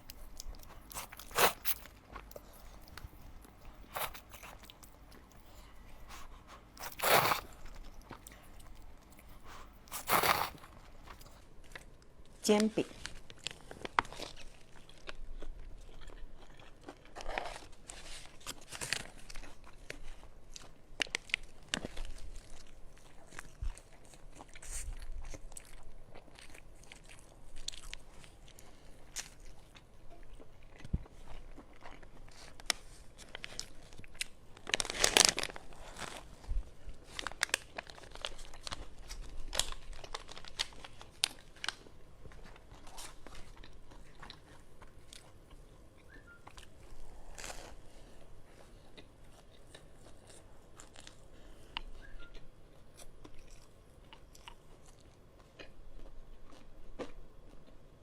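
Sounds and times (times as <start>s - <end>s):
crunchy chewing: 0.0s - 12.0s, 13.0s - 58.0s.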